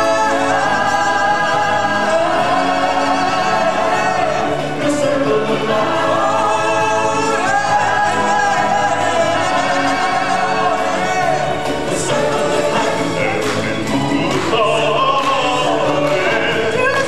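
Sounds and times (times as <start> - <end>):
backing track: 0.0 - 17.0
choir singing: 0.0 - 17.0
lead singer on microphone: 0.0 - 17.0.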